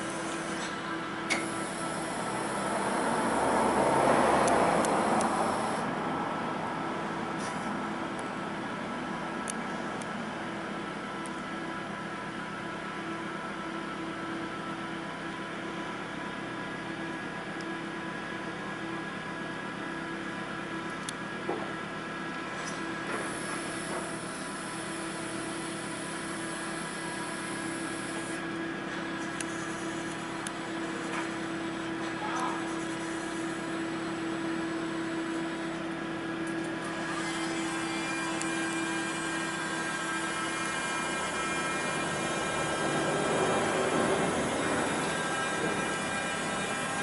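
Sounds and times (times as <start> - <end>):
hydraulic pump motor whine: 0.0 - 47.0.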